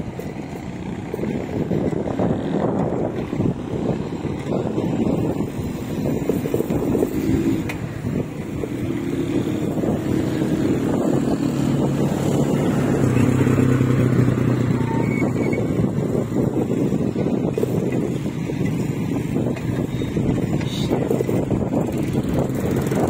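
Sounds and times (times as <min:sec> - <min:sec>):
vehicle engine running: 0:00.0 - 0:23.0
wind rushing over microphone: 0:00.0 - 0:23.0.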